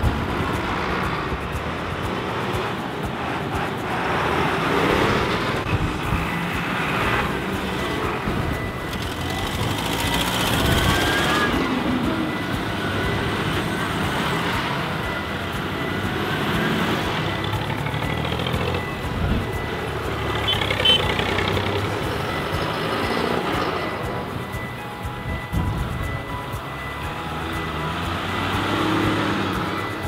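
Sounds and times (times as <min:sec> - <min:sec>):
tractor engines rumbling past: 0:00.0 - 0:30.0.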